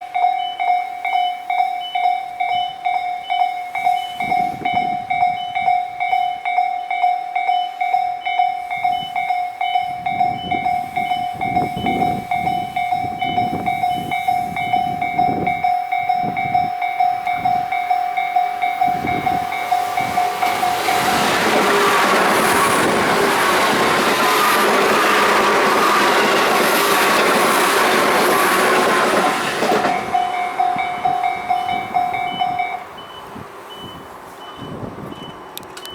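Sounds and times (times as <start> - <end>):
level-crossing alarm ringing: 0.0 - 35.9
train passing with wheel clatter: 0.0 - 35.9
train rumbling on rails: 1.1 - 7.0, 7.8 - 35.9.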